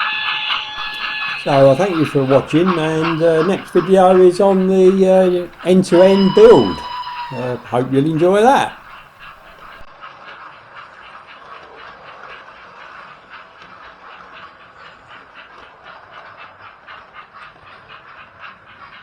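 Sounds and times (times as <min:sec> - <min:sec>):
train wheels clicking over rail joints: 0:00.8 - 0:19.0.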